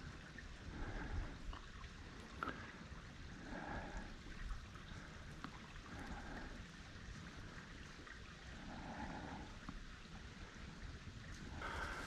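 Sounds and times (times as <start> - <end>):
faint creek rushing: 0.0 - 12.0.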